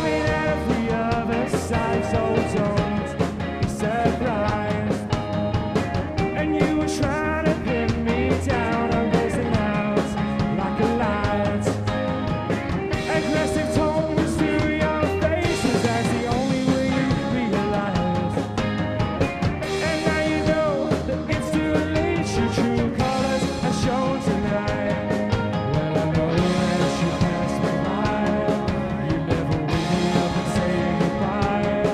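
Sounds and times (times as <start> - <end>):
person singing: 0.0 - 31.9
rock band playing: 0.0 - 31.9.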